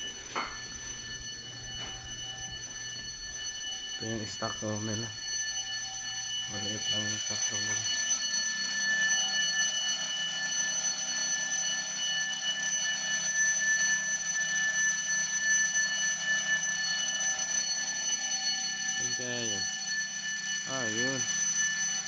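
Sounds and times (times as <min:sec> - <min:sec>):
high-pitched alarm tone: 0:00.0 - 0:22.0.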